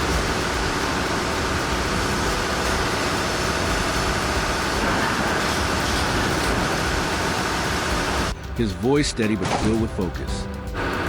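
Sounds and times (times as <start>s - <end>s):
heavy machinery engines running: 0.0s - 8.6s, 9.4s - 11.0s.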